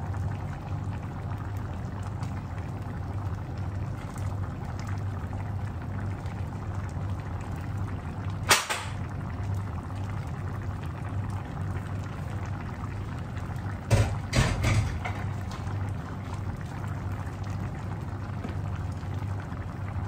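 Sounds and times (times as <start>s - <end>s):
sauce bubbling in a frying pan: 0.0s - 20.0s.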